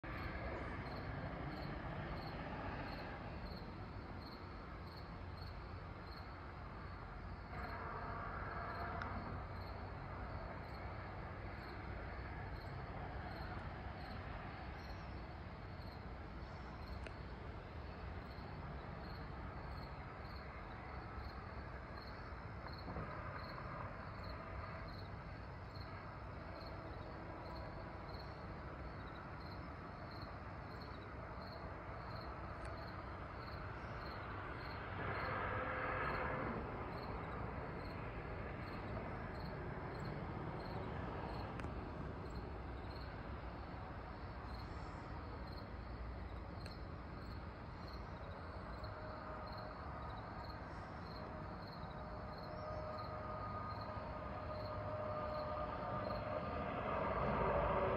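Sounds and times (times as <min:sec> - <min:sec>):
background hum of insects: 0:00.0 - 0:57.9
crickets chirping: 0:00.1 - 0:57.9.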